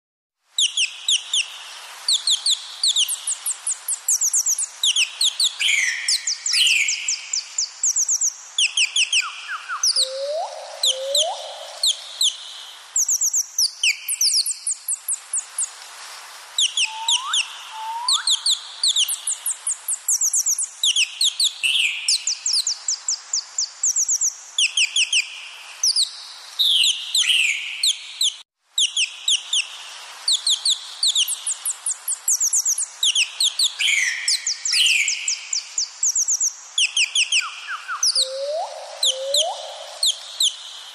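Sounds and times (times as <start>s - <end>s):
songbird calling: 0.6s - 15.7s, 16.6s - 29.7s, 30.3s - 40.9s.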